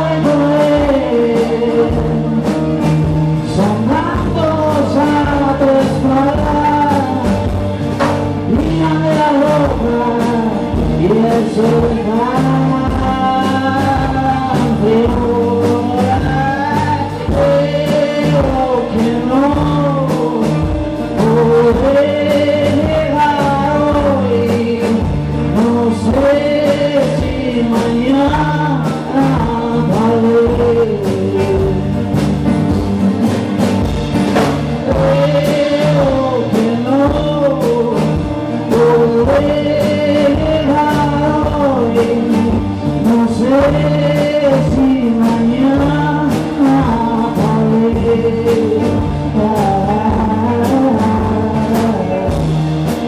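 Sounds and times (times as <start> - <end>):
male lead vocal: 0.0 - 33.5, 34.2 - 53.0
electric guitars: 0.0 - 53.0
steady drum beat: 0.0 - 53.0
strummed acoustic guitar: 0.0 - 53.0.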